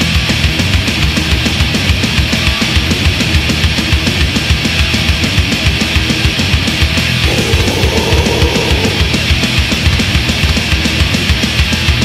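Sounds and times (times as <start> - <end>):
thrash metal band playing: 0.0 - 12.0.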